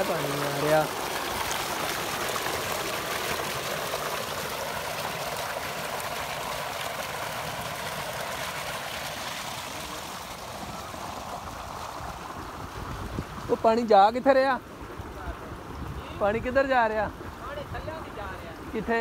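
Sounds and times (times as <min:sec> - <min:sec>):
water gushing into concrete tank: 0:00.0 - 0:19.0.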